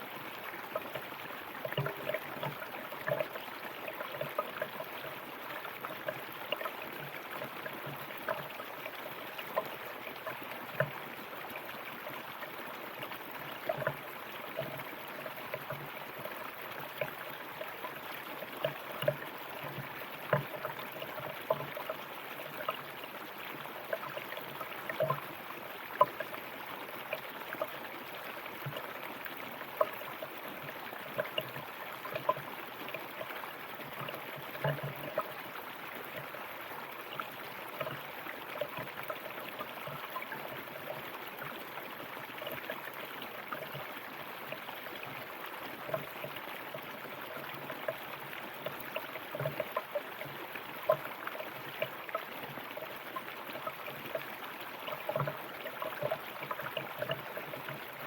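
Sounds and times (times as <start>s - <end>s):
stream rushing over rocks: 0.0s - 58.0s
water bubbling and plopping: 0.0s - 58.0s.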